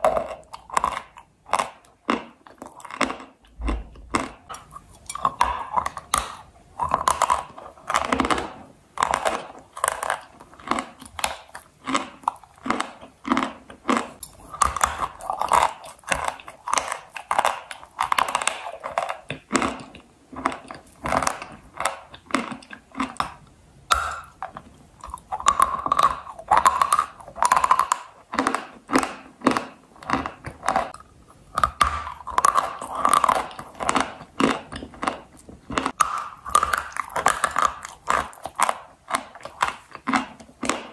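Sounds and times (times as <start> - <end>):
crisp crunching chewing: 0.0 - 40.9.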